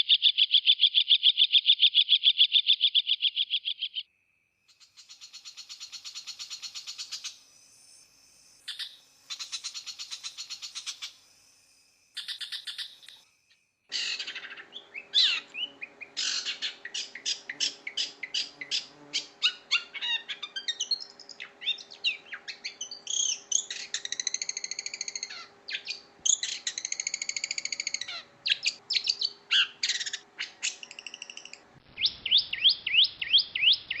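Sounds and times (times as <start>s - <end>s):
bird singing trills and chirps: 0.0s - 4.1s, 8.6s - 11.3s, 12.2s - 13.3s, 13.9s - 34.0s.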